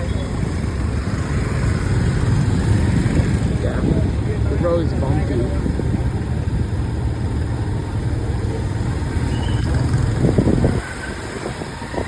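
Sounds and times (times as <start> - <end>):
road noise: 0.0 - 12.0
wind: 0.0 - 12.0.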